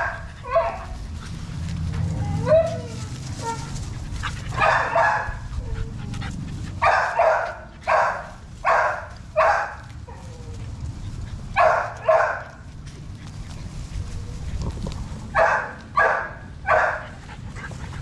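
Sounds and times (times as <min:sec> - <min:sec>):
puppies yipping: 0:00.0 - 0:01.0, 0:02.1 - 0:14.6, 0:15.4 - 0:18.0.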